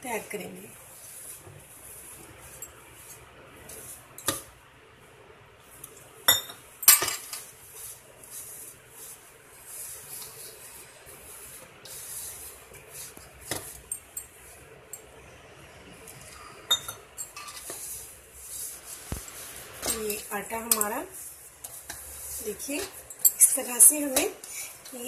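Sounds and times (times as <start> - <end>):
hand mixing flour in bowl: 0.0 - 6.2, 7.2 - 15.2, 17.2 - 25.0.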